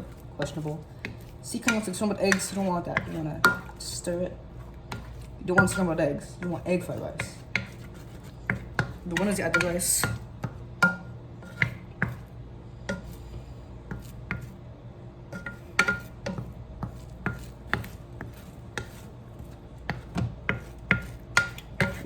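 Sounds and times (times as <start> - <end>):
utensil scraping a frying pan: 0.0 - 12.3, 15.3 - 22.0.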